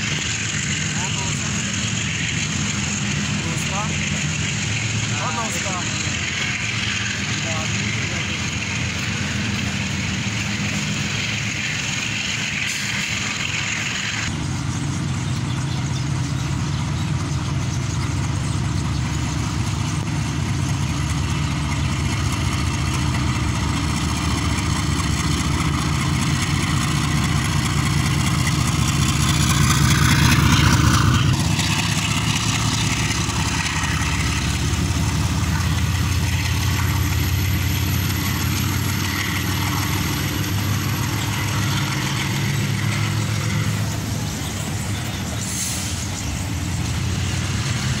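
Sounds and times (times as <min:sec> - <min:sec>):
diesel locomotive engine drone: 0:00.0 - 0:48.0.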